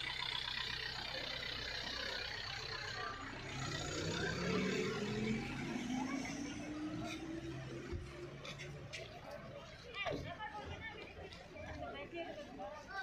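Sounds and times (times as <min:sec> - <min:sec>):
bus engine running: 0:00.0 - 0:11.2.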